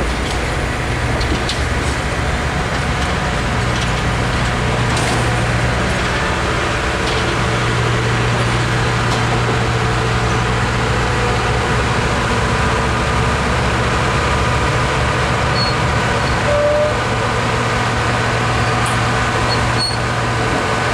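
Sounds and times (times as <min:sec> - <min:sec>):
locomotive engine idling: 0:00.0 - 0:20.9.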